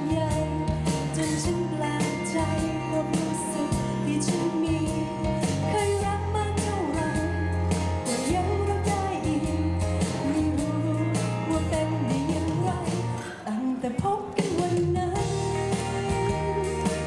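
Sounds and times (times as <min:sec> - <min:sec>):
pop backing track with bass and drums: 0:00.0 - 0:17.0
woman singing into microphone: 0:00.0 - 0:17.0.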